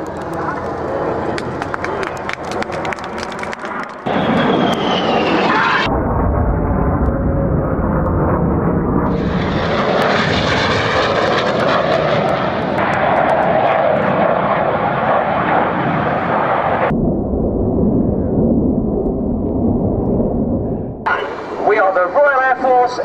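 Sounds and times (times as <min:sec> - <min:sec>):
jets flying overhead: 0:00.0 - 0:23.0.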